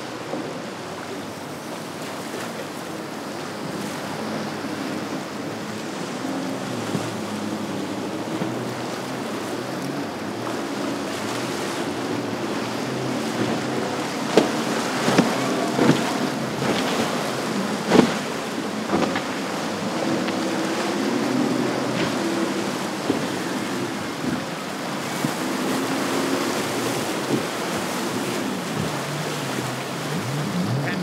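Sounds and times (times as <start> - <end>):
outboard boat engines running: 0.0 - 31.0
surf wash: 0.0 - 31.0.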